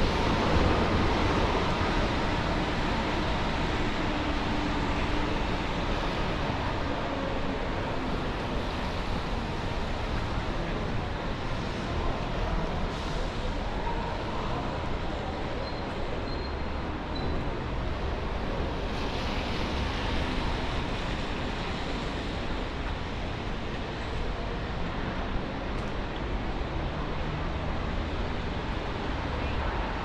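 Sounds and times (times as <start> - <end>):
traffic on wet roads: 0.0 - 30.0.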